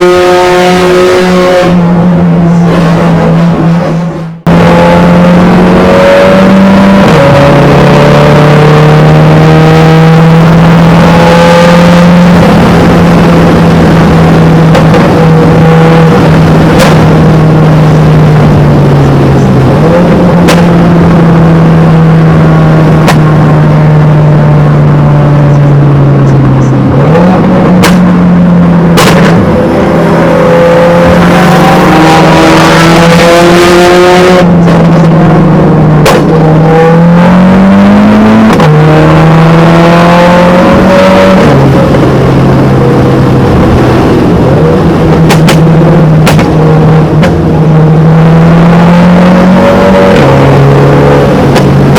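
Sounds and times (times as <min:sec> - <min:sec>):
loud car exhaust and engine: 0:00.0 - 0:51.9.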